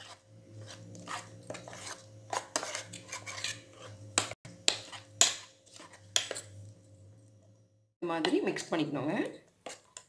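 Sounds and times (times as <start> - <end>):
metal spoon stirring batter: 0.0 - 7.5, 8.2 - 10.0.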